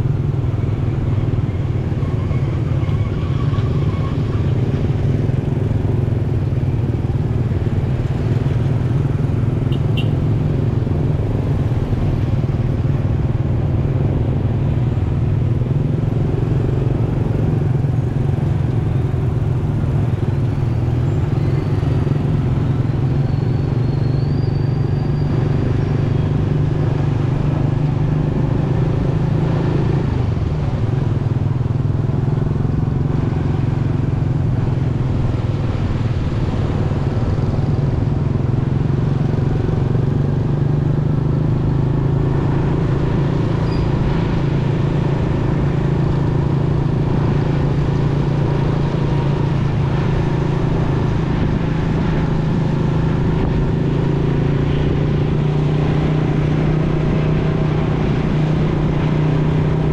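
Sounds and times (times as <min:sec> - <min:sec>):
road noise: 0:00.0 - 0:59.9
motorcycle engine running: 0:03.8 - 0:24.1, 0:24.7 - 0:59.9.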